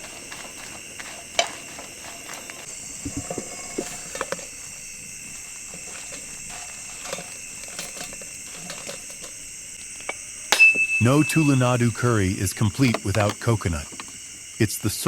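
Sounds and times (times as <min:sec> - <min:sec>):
cooking utensils knocking: 0:00.0 - 0:15.0
insects chorus: 0:00.0 - 0:15.0.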